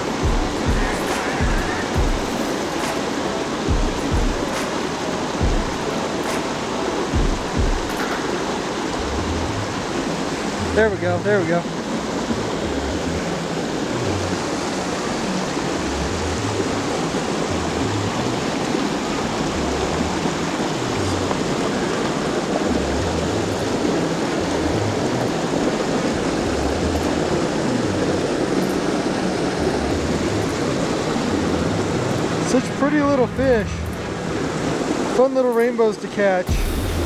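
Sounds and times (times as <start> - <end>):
creek pouring over rocks: 0.0 - 37.0.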